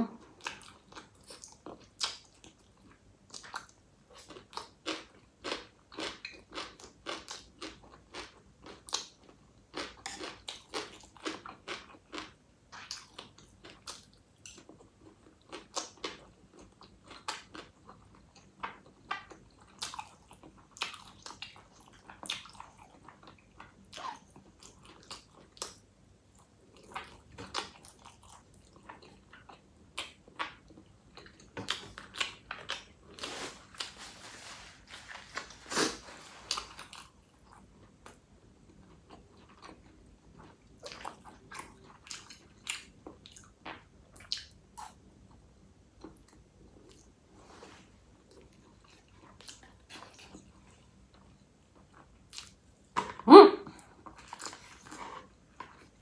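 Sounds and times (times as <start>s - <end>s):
person chewing crunchy food: 0.2s - 56.0s.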